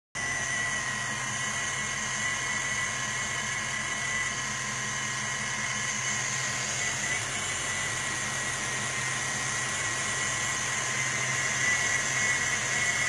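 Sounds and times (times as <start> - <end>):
car engine idling: 0.2 - 13.0
thin steady whine: 0.2 - 13.0.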